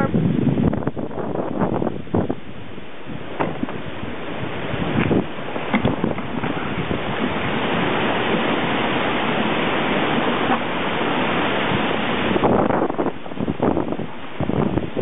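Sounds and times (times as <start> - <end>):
gusting wind through trees: 0.0 - 15.0
wind buffeting microphone: 0.0 - 15.0.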